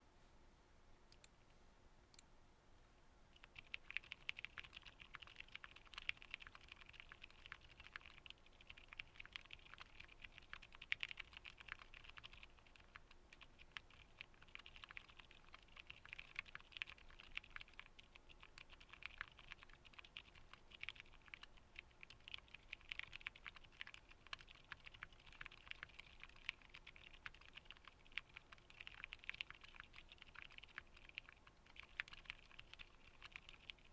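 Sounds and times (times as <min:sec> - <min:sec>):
soft mechanical keyboard typing: 0:01.1 - 0:01.4, 0:03.3 - 0:33.9.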